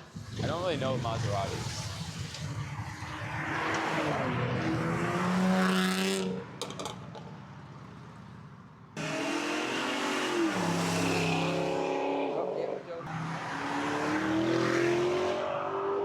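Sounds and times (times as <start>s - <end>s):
car engine revving hard: 0.4s - 6.4s, 9.0s - 16.0s.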